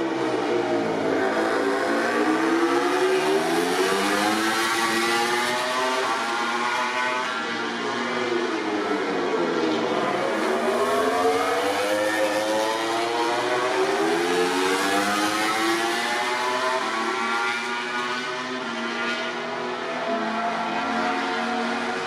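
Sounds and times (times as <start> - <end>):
racing motorcycles revving: 0.2 - 22.0.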